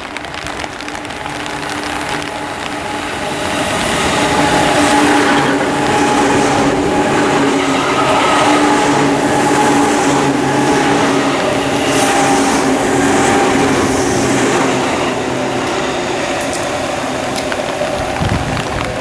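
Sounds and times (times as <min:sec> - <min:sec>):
electric train motor tones: 0:00.0 - 0:19.0
train wheels on rail: 0:00.0 - 0:19.0.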